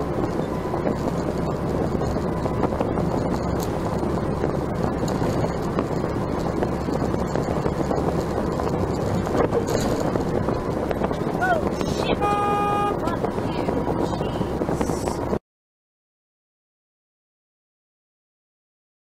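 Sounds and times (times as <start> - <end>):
vehicle interior road noise: 0.0 - 15.4.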